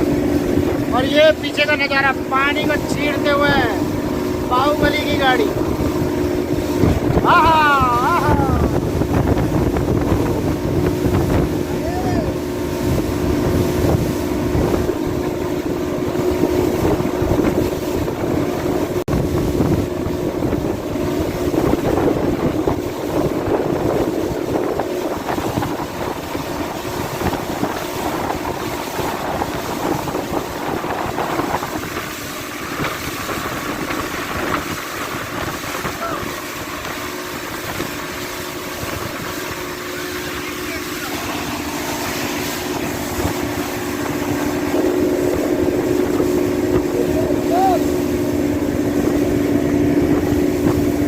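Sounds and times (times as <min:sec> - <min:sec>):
speedboat engine running: 0:00.0 - 0:51.0
water rushing past hull: 0:00.0 - 0:51.0
wind buffeting microphone: 0:00.0 - 0:51.0.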